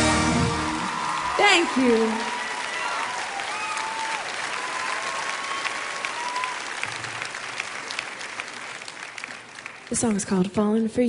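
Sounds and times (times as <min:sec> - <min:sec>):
audience applauding and cheering: 0:00.0 - 0:10.5.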